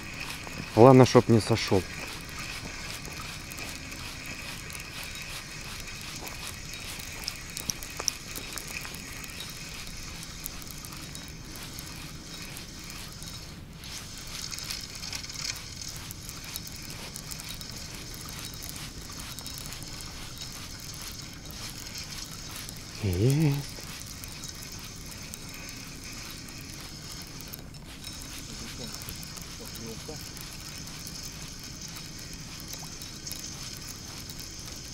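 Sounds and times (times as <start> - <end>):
fishing reel clicking: 0.0 - 34.9
sharp ticks: 0.0 - 34.9.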